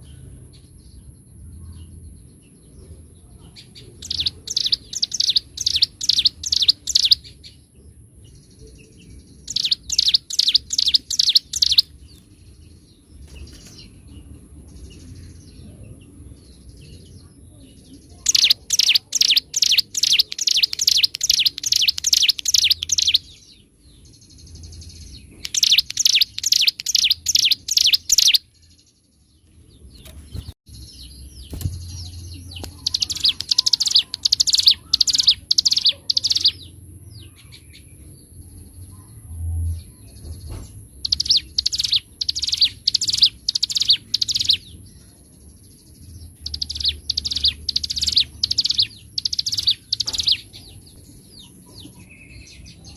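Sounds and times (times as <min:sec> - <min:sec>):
bird singing rapid sharp chirps: 0:00.0 - 0:39.0, 0:39.8 - 0:52.9.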